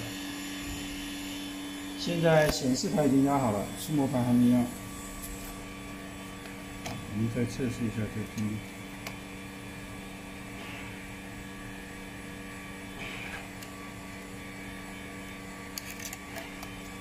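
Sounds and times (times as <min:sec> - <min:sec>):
electrical hum of machine: 0:00.0 - 0:17.0.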